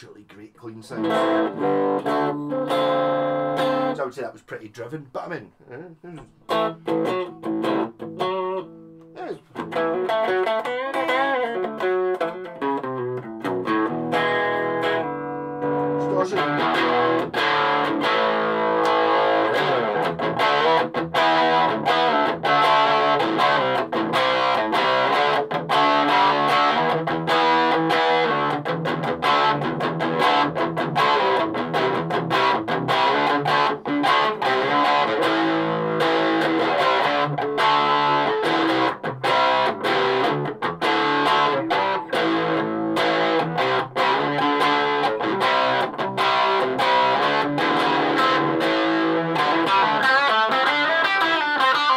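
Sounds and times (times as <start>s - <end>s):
distorted electric guitar riffs: 0.9s - 4.1s, 5.6s - 51.9s.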